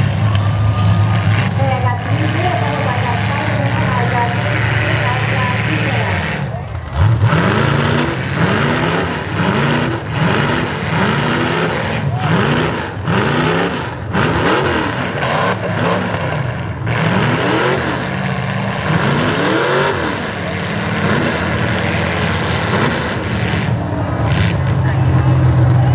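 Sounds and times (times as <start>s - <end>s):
truck engines revving: 0.0s - 25.9s.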